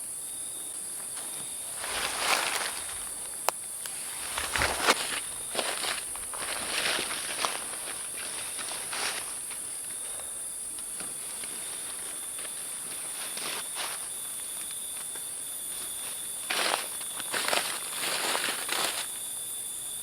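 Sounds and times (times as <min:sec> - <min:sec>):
insect chorus: 0:00.0 - 0:20.0
rustling footsteps: 0:01.0 - 0:19.3.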